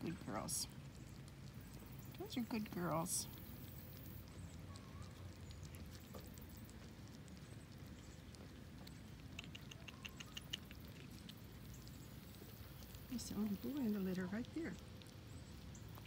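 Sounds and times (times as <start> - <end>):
kittens chewing food: 0.0 - 16.0.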